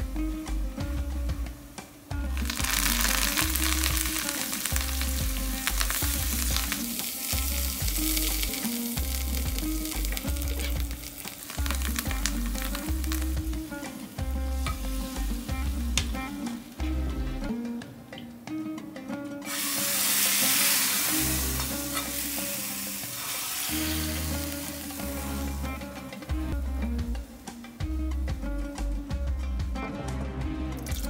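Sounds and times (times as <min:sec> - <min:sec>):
garlic sizzling in a pan: 0:00.0 - 0:17.0, 0:19.4 - 0:28.1
background music with steady beat: 0:00.0 - 0:31.0.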